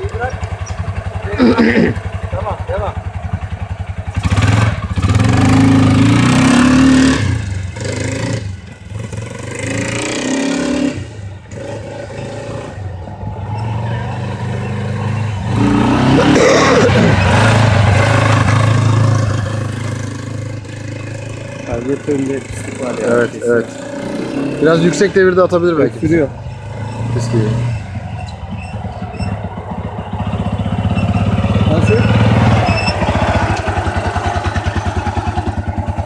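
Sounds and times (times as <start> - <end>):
quad bike engine revving: 0.0 - 36.0.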